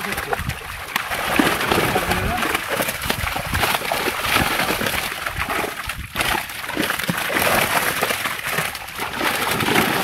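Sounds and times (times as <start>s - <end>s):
fish splashing in water: 0.0s - 10.0s
people wading in water: 0.0s - 10.0s.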